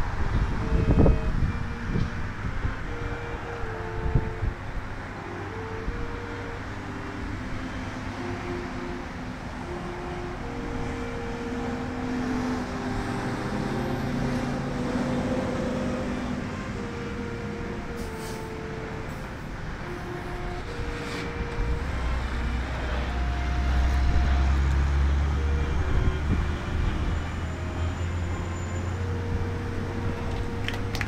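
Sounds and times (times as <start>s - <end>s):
passing road traffic: 0.0s - 31.0s
wind: 0.0s - 31.0s.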